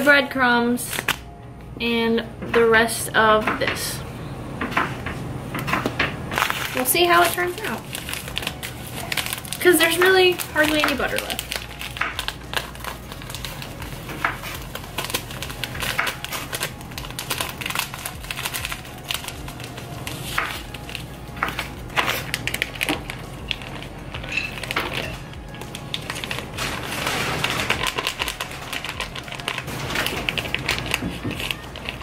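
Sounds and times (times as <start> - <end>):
plastic packets crinkling: 6.3 - 32.0.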